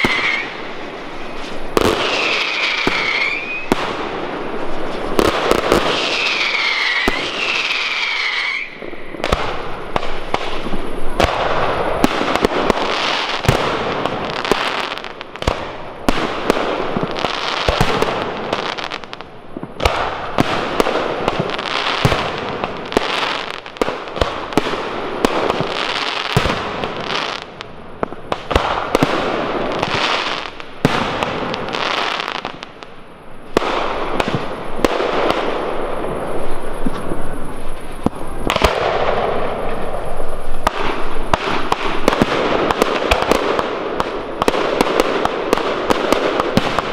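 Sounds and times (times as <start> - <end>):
fireworks bangs: 0.0 - 46.9
fireworks crackling: 0.0 - 46.9
fireworks whistling: 0.0 - 46.9.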